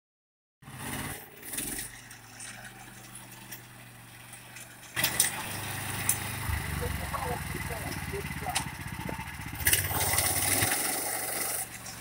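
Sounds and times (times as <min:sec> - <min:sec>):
small tractor engine running: 0:00.6 - 0:12.0
sharp rattles: 0:01.1 - 0:12.0.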